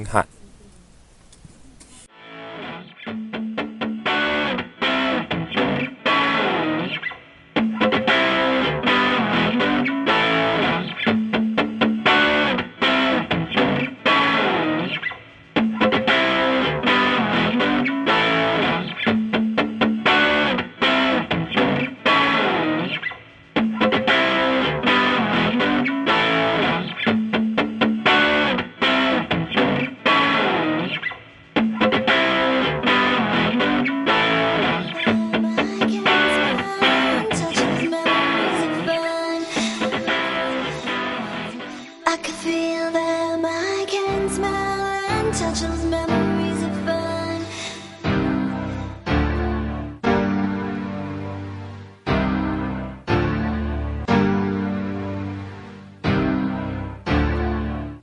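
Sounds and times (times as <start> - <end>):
distorted electric guitar riff: 2.1 - 42.4, 47.7 - 58.0.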